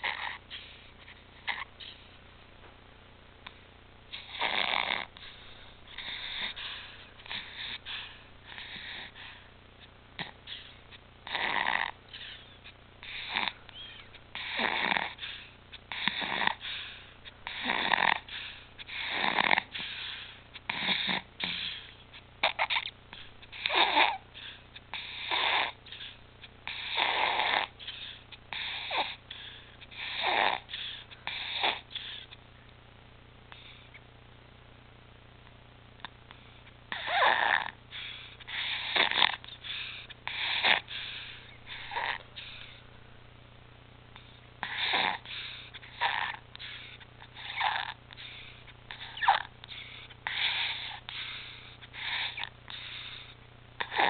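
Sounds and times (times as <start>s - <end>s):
infant breathing with stridor: 0.0s - 2.2s, 4.1s - 32.4s, 36.4s - 42.9s, 44.2s - 54.0s.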